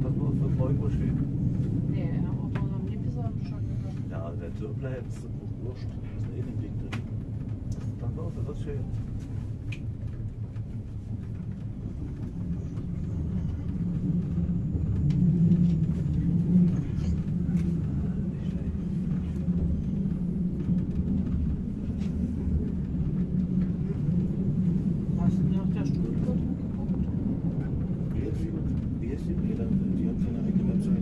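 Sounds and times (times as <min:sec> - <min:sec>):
train rumbling: 0:00.0 - 0:31.0
faint track clicks: 0:05.0 - 0:31.0.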